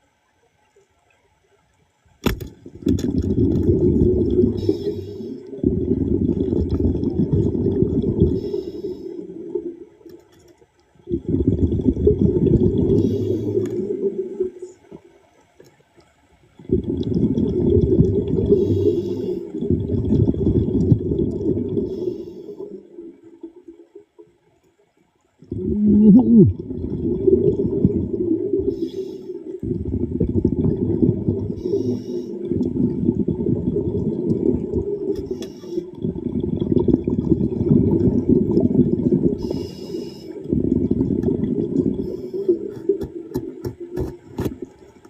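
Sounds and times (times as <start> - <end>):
underwater regulator bubbling: 2.6 - 10.2, 11.0 - 15.0, 16.6 - 24.0, 25.4 - 45.0.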